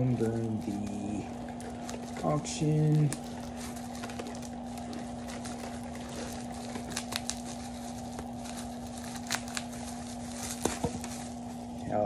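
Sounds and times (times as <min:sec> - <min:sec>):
bubble wrap crackles: 0:00.0 - 0:12.0
bubble wrap crinkling: 0:00.0 - 0:12.0
steady low hum: 0:00.0 - 0:12.0.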